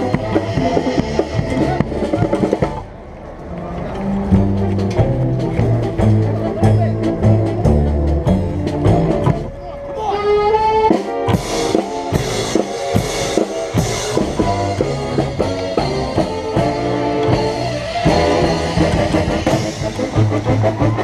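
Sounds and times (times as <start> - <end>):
upright bass: 0.0 - 9.6, 10.2 - 21.0
drums: 0.0 - 21.0
string band playing live: 0.0 - 21.0.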